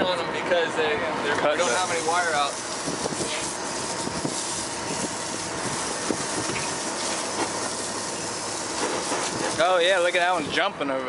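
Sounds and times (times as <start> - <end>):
boat engine: 0.0 - 11.0
wind: 0.0 - 11.0.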